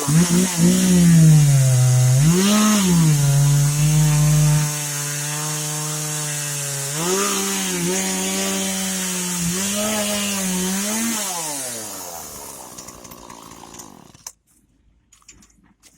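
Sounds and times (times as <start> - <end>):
chainsaw cutting wood: 0.0 - 14.4.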